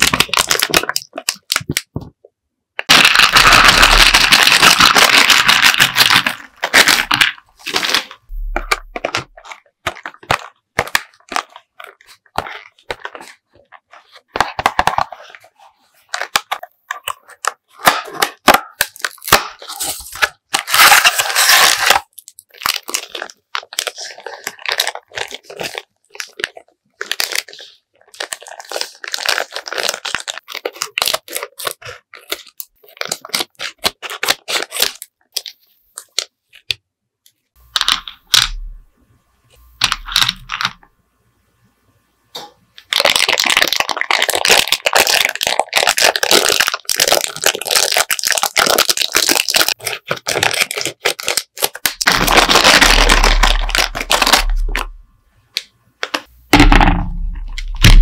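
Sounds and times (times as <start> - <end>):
candy wrappers crinkling: 0.0 - 2.2, 2.8 - 36.8, 37.7 - 38.8, 39.8 - 40.9, 42.4 - 55.0, 55.6 - 58.0.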